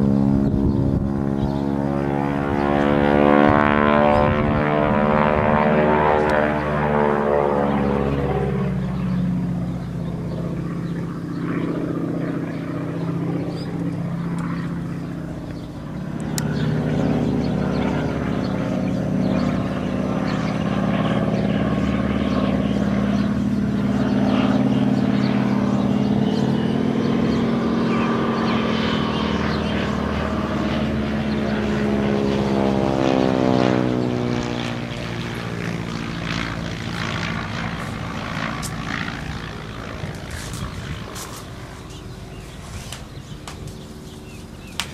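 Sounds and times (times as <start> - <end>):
propeller aircraft engines droning: 0.0 - 44.9
radial engine plane flying by low: 0.0 - 44.9.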